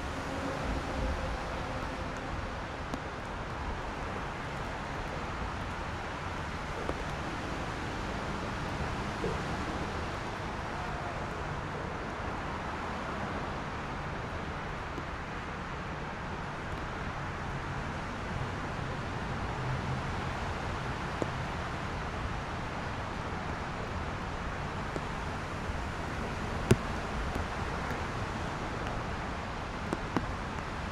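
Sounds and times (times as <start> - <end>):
traffic on wet roads: 0.0 - 30.9.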